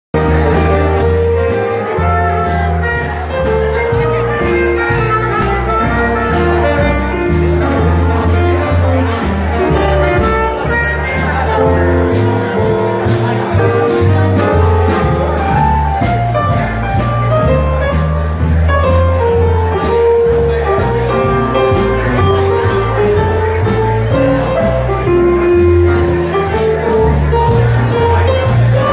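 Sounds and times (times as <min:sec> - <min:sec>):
jazz band playing swing: 0:00.1 - 0:28.9
low bass line: 0:00.1 - 0:28.9.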